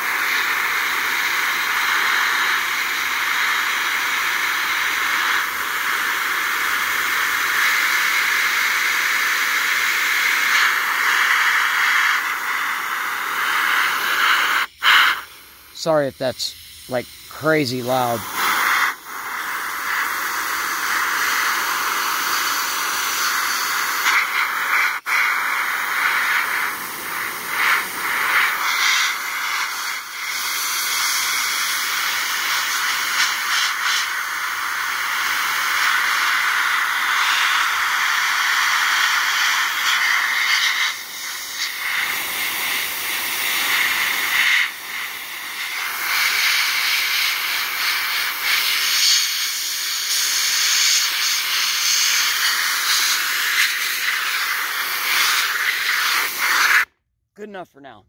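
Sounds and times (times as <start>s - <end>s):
air blow gun hissing: 0.0s - 56.9s.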